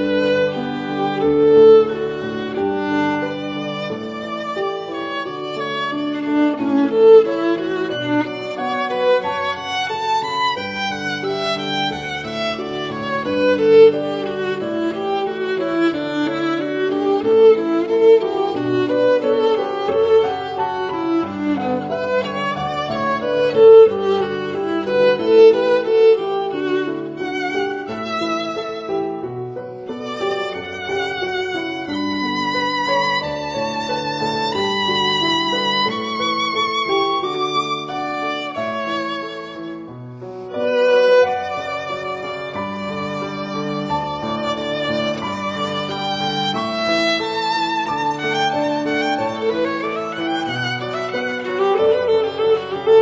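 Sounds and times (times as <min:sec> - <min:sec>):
violin melody: 0:00.0 - 0:53.0.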